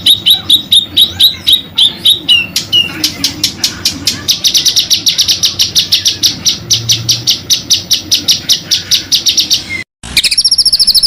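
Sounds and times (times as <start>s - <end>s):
songbird rapid rolling trill: 0.0s - 11.0s.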